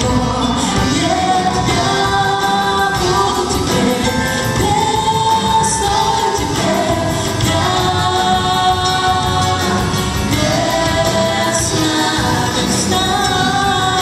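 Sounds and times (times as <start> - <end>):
folk-pop song with band: 0.0 - 14.0
voices singing held notes: 0.0 - 14.0.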